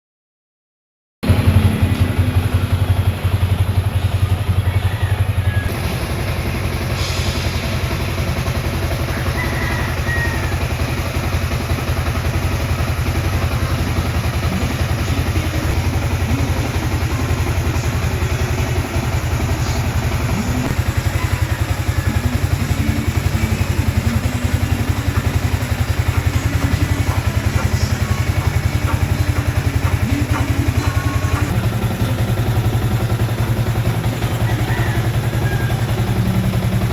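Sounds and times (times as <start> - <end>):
motorcycle engine idling: 1.2 - 36.9.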